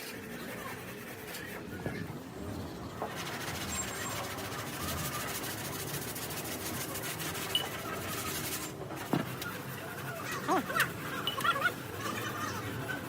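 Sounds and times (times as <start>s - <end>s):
rough rubbing rasping noise: 0.0s - 13.0s.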